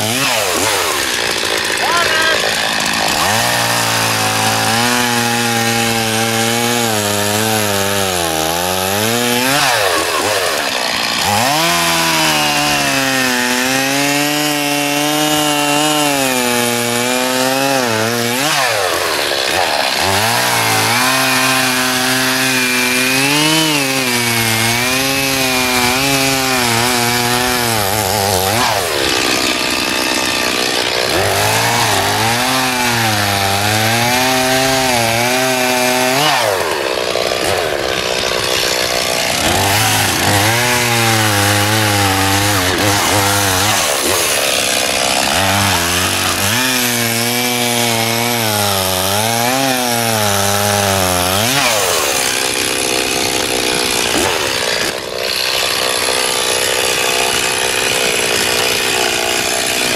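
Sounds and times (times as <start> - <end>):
chainsaw cutting ice: 0.0 - 59.9.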